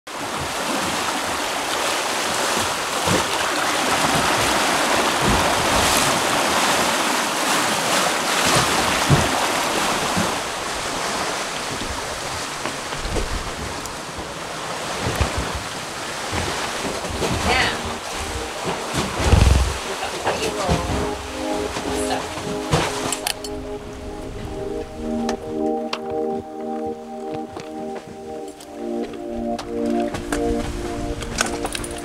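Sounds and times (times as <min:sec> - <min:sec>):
churning water and waves: 0:00.1 - 0:32.0.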